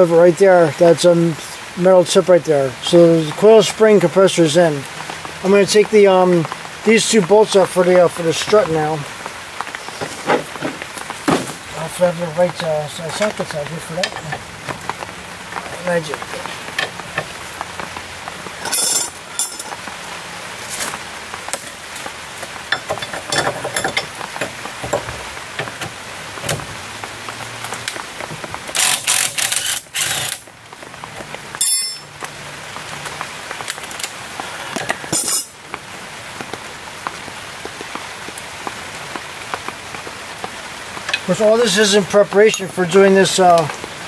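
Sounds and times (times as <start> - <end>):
steady hiss: 0.0 - 44.0.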